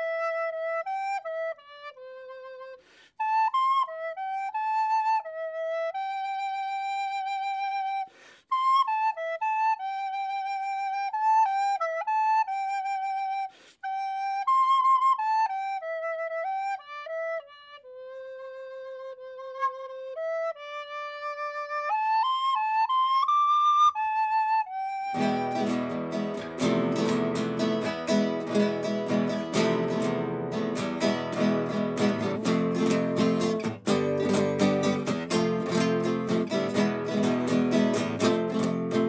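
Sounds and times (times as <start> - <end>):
flute-like solo melody: 0.0 - 39.0.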